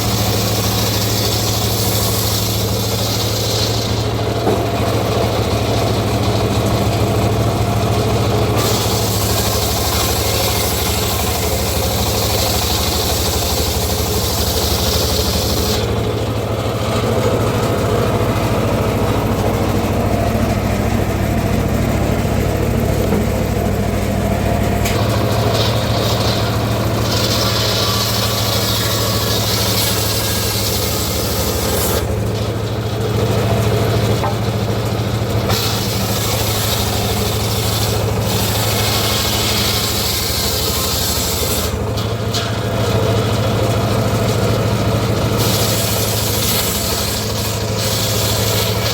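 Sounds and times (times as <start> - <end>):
saw blade rasping through wood: 0.0 - 20.5, 24.8 - 48.9
sawmill engine humming: 0.0 - 48.9.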